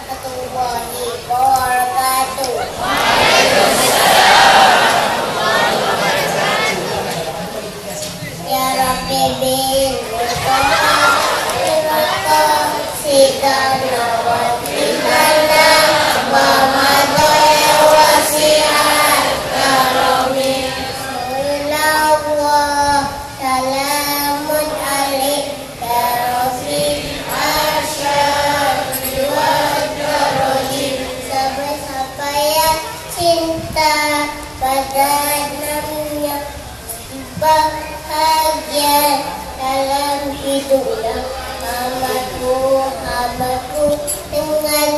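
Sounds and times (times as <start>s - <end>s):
boy singing into microphone: 0.0s - 2.8s, 8.1s - 44.9s.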